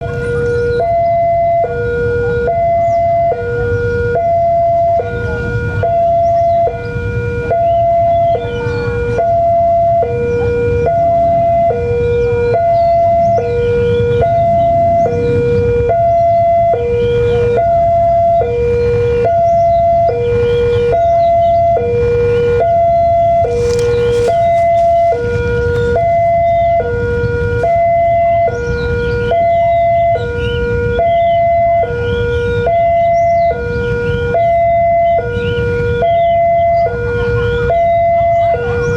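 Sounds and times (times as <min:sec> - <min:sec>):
continuous low rumble: 0:00.0 - 0:38.9
two-tone siren: 0:00.0 - 0:38.9.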